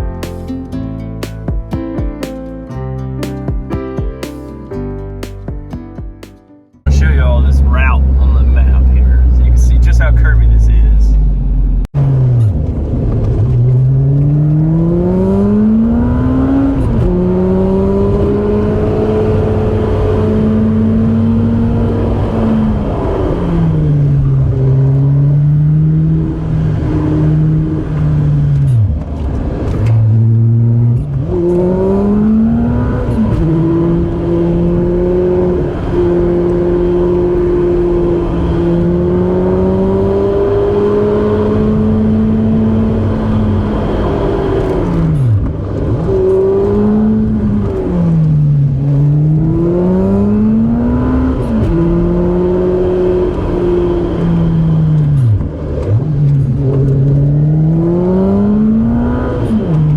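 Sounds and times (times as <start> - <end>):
car engine revving: 6.9 - 59.9.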